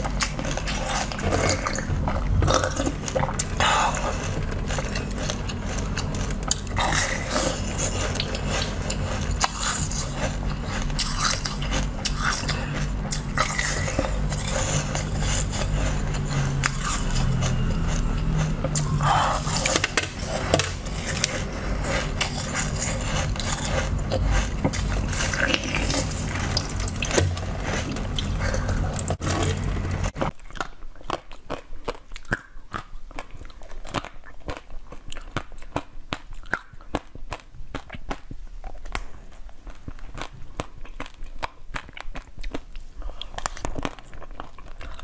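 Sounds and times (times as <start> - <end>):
biting and chewing candy: 0.0 - 45.0
wet mouth clicks and chewing: 0.0 - 45.0.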